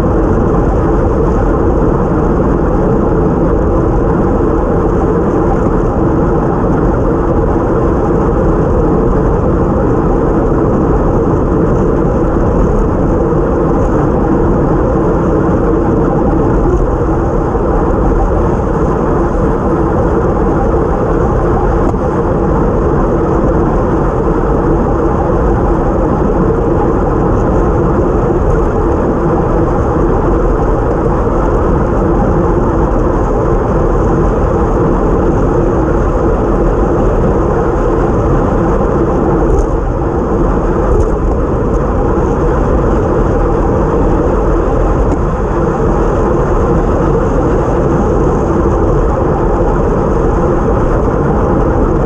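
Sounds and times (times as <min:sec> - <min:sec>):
road noise from bike: 0:00.0 - 0:52.0
wind buffeting microphone: 0:00.0 - 0:52.0.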